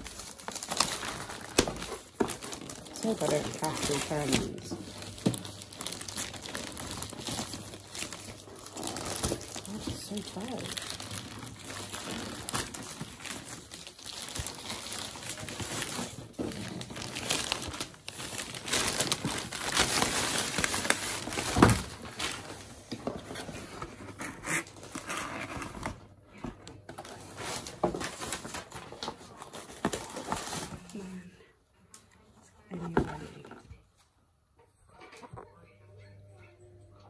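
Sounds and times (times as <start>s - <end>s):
packaging crinkling and rustling: 0.0s - 31.1s.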